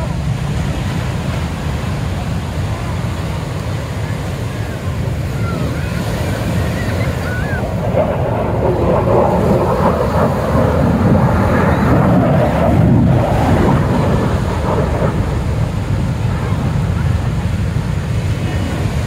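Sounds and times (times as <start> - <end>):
ocean surf washing in: 0.0 - 19.0
rushing noise: 0.0 - 19.0
wind buffeting microphone: 0.0 - 19.0.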